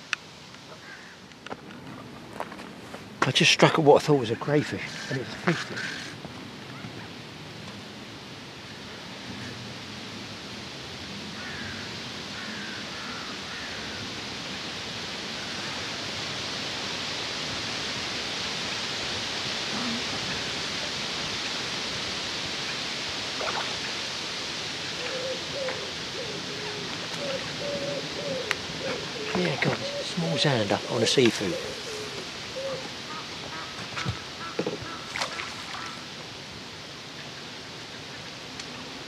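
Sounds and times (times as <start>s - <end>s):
wind through trees and reeds: 0.0s - 39.0s.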